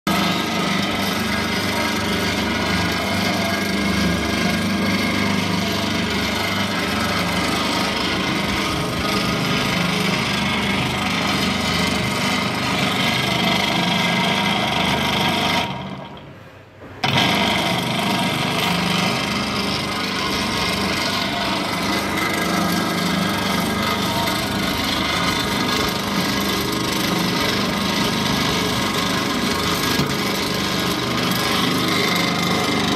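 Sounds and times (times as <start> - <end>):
machine motor and scraping rub: 0.1 - 16.2, 16.8 - 32.9.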